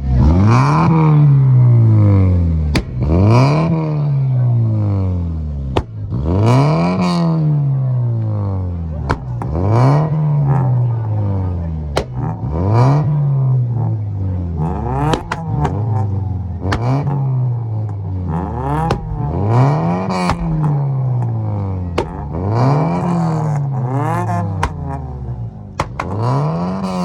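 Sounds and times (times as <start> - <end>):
car engine revving: 0.0 - 27.0
exhaust pops: 1.0 - 27.0.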